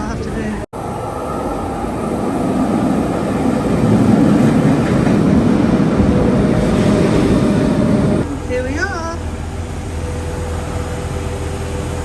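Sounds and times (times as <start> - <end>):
commuter train rumbling: 0.0 - 12.0.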